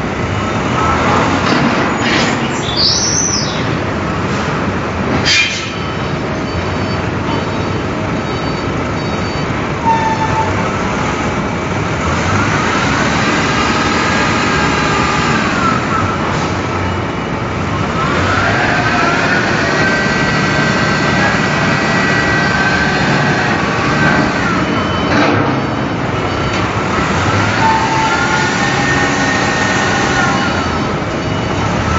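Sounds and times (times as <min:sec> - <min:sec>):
heavy machinery din: 0:00.0 - 0:31.9.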